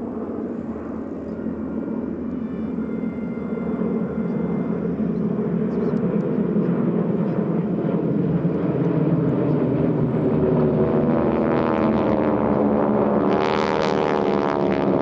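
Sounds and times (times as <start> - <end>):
propeller planes passing overhead: 0.0 - 15.0.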